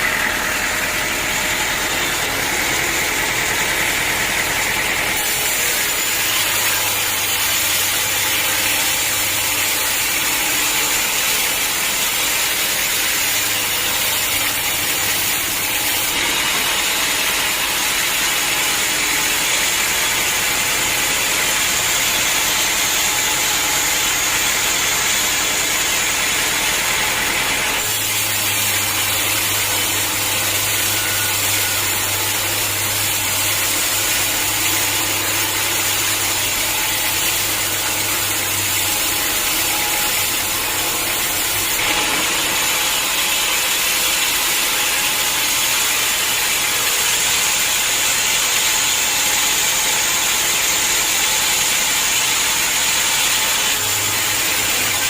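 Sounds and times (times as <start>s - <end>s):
sawmill log saw running: 0.0s - 55.0s.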